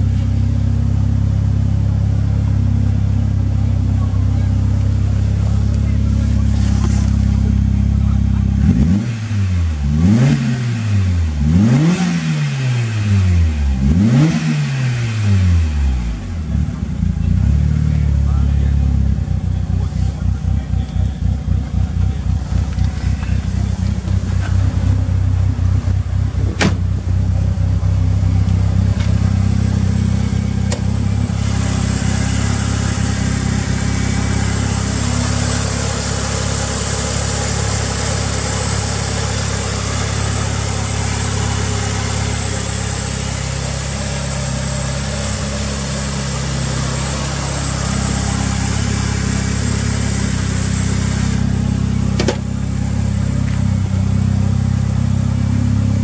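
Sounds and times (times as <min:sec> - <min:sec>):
car engine idling: 0:00.0 - 0:56.0
hiss and engine-bay noise: 0:02.4 - 0:11.1, 0:11.8 - 0:56.0.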